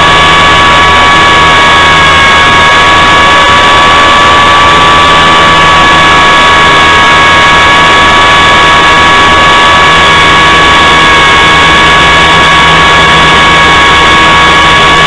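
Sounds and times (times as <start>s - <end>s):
model airplane engine whine: 0.0s - 15.0s.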